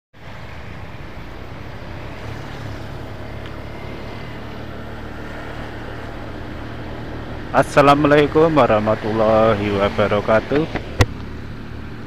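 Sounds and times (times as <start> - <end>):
scooter engine hum: 0.2 - 12.0.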